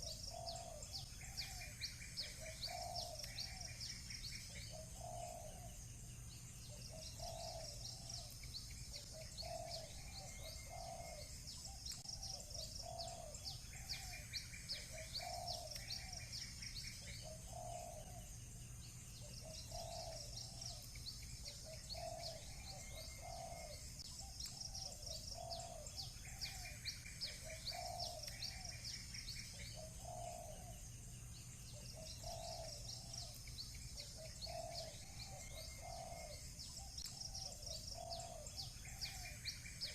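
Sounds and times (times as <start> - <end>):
doves cooing: 0.0 - 5.8, 6.7 - 18.4, 19.2 - 30.9, 31.7 - 39.9
bird buzzy trills: 0.0 - 39.9
small birds chirping: 0.0 - 39.9.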